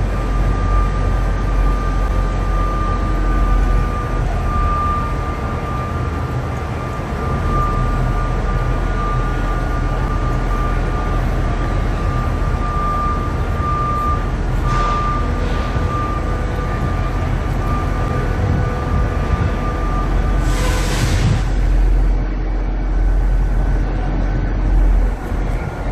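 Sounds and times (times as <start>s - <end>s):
heavy machinery rumbling: 0.0s - 25.9s.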